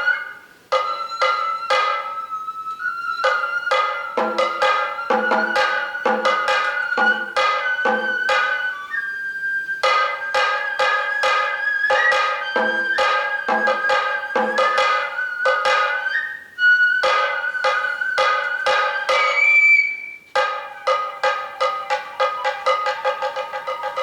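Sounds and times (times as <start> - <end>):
drum strokes: 0.0 - 9.0, 9.8 - 24.0
bamboo flute long high notes: 0.0 - 24.0.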